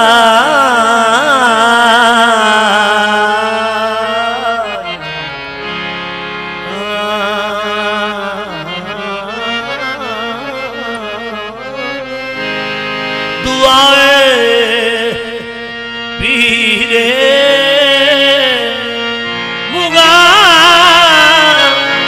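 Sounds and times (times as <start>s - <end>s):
harmonium tones: 0.0s - 22.0s
lead voice singing ornamented notes: 0.0s - 22.0s.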